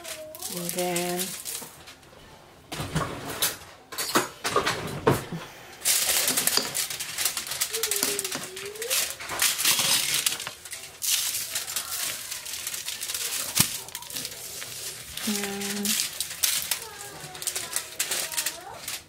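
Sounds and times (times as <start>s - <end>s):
aluminium foil crinkling: 0.0s - 2.3s, 3.4s - 19.0s.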